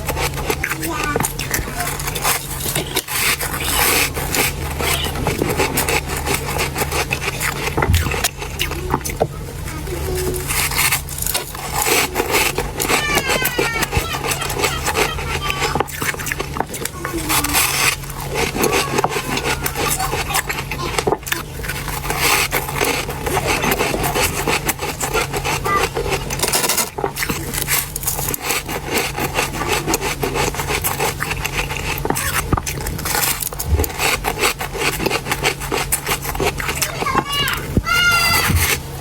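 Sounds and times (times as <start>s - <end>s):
chewing ice crunching: 0.0s - 39.0s.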